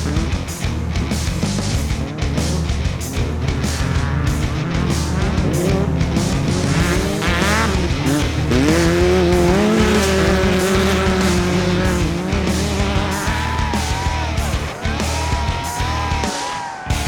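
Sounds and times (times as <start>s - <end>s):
background music: 0.0s - 17.0s
engine revving hard: 0.0s - 17.0s.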